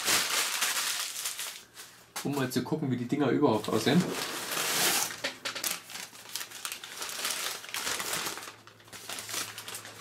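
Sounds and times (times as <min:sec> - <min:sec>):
newspaper crumpling and rustling: 0:00.0 - 0:02.5, 0:03.6 - 0:10.0.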